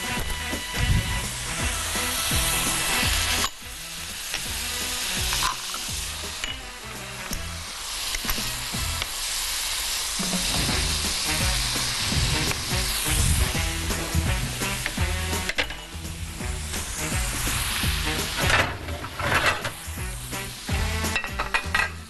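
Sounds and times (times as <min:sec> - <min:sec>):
background music with a beat: 0:00.0 - 0:09.2, 0:10.2 - 0:18.9, 0:19.6 - 0:22.0
fish sizzling in a pan: 0:00.0 - 0:22.0.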